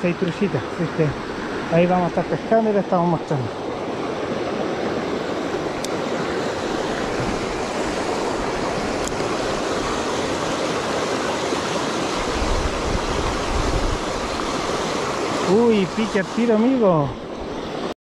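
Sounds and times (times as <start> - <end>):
river rushing over rapids: 0.0 - 17.9.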